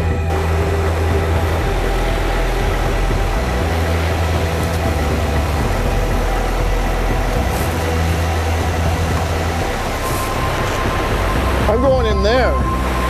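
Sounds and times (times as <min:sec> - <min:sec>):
low rumble: 0:00.0 - 0:13.0
waterfall rushing: 0:00.0 - 0:13.0.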